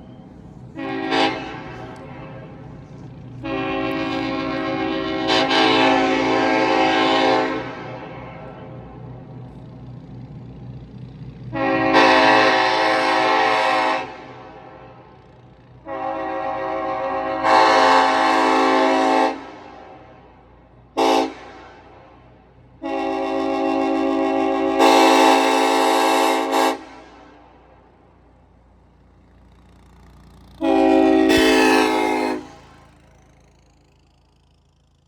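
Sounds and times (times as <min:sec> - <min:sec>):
train horn blasts: 0:00.5 - 0:09.2, 0:11.5 - 0:28.2, 0:29.1 - 0:33.4.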